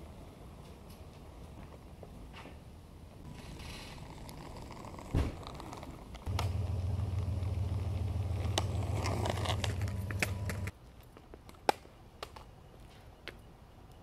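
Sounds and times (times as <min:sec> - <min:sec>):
skateboard wheels rolling on asphalt: 0:00.0 - 0:13.4.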